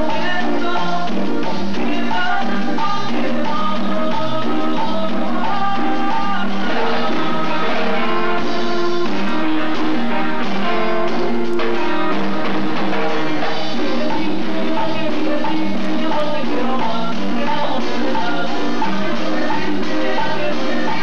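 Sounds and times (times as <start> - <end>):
drum kit beat: 0.0 - 21.0
latin dance band playing: 0.0 - 21.0.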